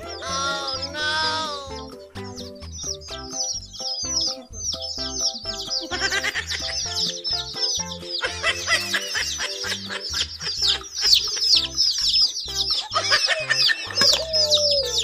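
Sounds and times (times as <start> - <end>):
baby chicks peeping: 0.0 - 15.0
background music with bass beat: 0.0 - 15.0.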